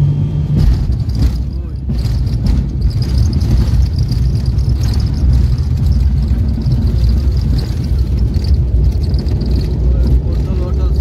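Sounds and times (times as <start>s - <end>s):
airliner engine rumble in cabin: 0.0s - 11.0s.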